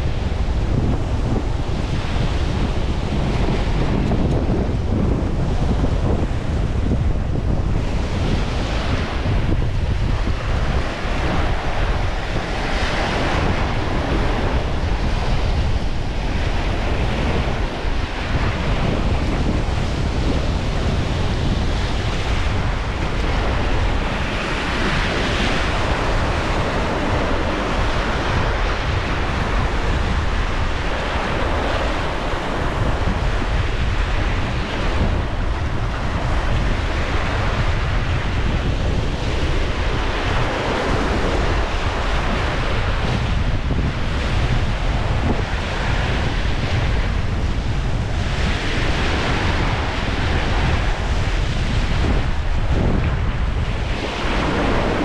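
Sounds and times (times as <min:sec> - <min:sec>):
wind blowing across microphone: 0:00.0 - 0:55.0.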